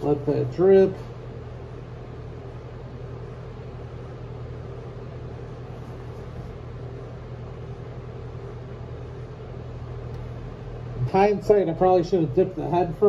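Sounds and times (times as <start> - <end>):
electric fan running: 0.0 - 13.0
low mains drone: 0.0 - 13.0.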